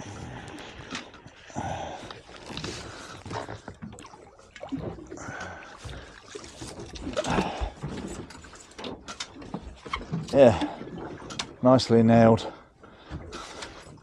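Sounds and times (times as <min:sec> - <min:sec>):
water slapping against boat hull: 0:00.3 - 0:12.2.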